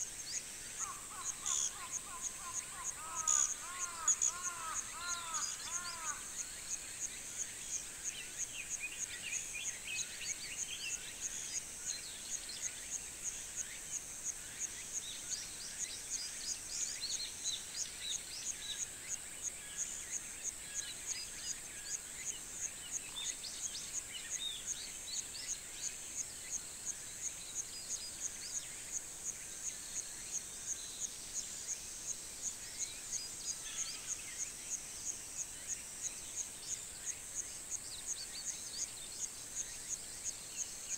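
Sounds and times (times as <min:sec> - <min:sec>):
insect chirping: 0:00.0 - 0:40.9.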